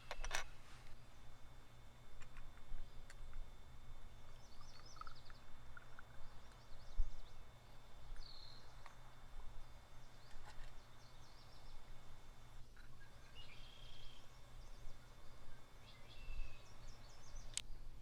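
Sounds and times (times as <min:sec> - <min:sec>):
birds chirping faintly: 0:00.0 - 0:17.7.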